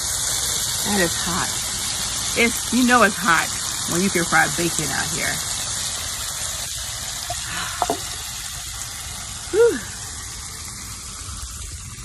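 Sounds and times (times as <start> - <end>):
bacon sizzling in a skillet: 0.0 - 12.0.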